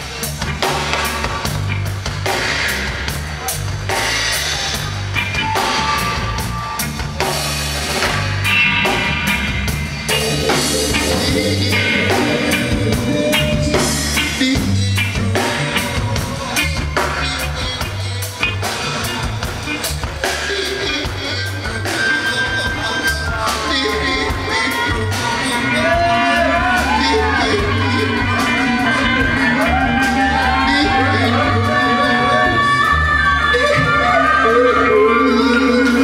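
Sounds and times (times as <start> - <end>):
bass guitar line: 0.0 - 36.0
drum kit: 0.0 - 36.0
electric guitar: 0.0 - 36.0.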